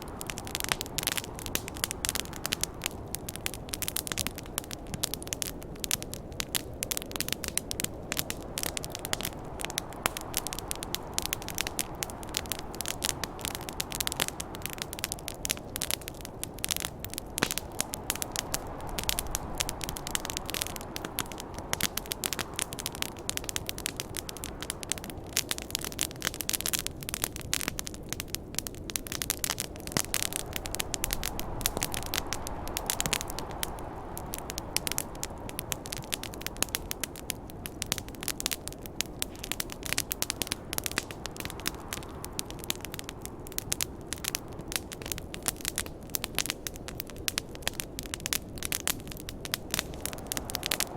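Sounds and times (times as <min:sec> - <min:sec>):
campfire crackling and popping: 0:00.0 - 0:50.9
rushing snowstorm wind: 0:00.0 - 0:50.9.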